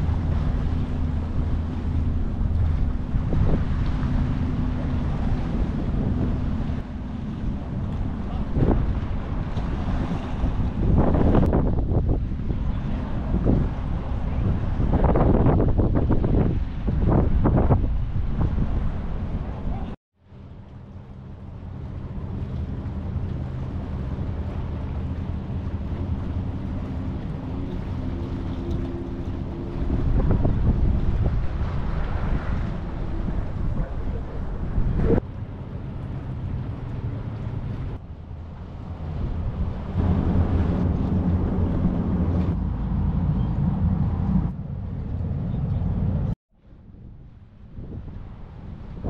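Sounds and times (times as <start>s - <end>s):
wind noise on microphone: 0.0s - 20.8s, 22.0s - 49.0s
low engine rumble: 0.0s - 49.0s.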